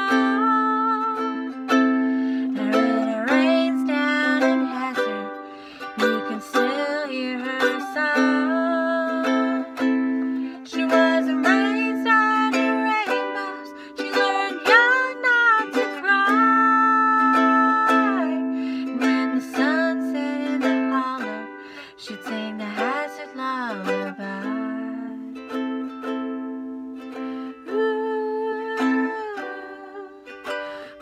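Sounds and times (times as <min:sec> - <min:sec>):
woman singing folk ballad: 0:00.0 - 0:25.8, 0:26.4 - 0:31.0
ukulele strumming: 0:00.0 - 0:31.0.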